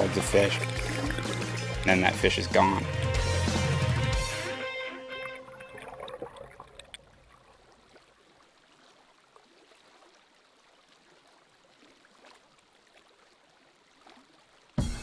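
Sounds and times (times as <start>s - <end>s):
faint flowing stream: 0.0s - 3.4s, 5.1s - 15.0s.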